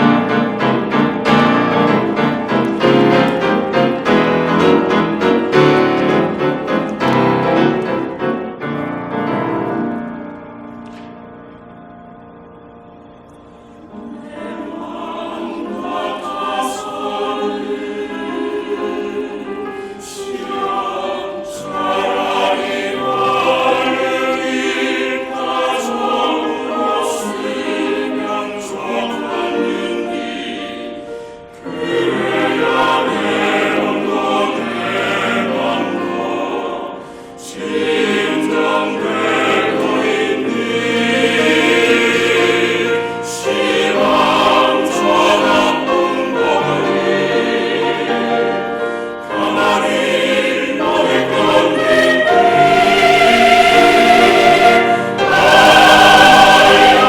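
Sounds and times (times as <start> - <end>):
choir singing: 0.0 - 10.5, 12.5 - 57.0
piano accompaniment: 0.0 - 57.0.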